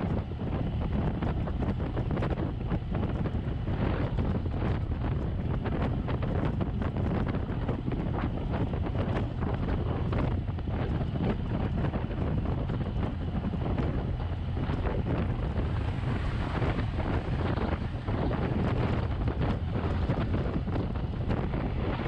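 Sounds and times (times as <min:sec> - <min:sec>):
engine low rumble: 0:00.0 - 0:22.0
wind noise in cab: 0:00.0 - 0:22.0.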